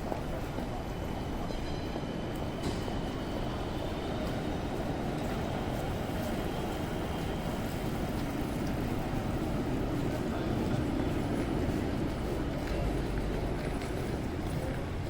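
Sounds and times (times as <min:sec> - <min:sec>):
city traffic on wet streets: 0:00.0 - 0:15.0
rain: 0:00.0 - 0:15.0.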